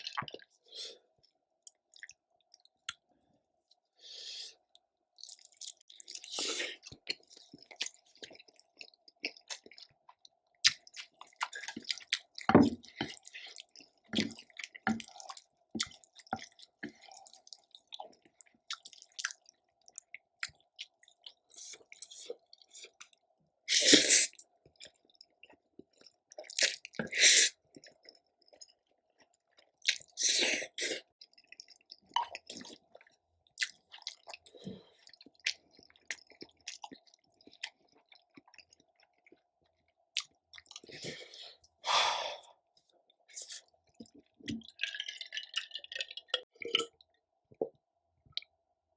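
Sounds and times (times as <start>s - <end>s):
person chewing food: 0.0s - 3.9s, 4.5s - 48.6s.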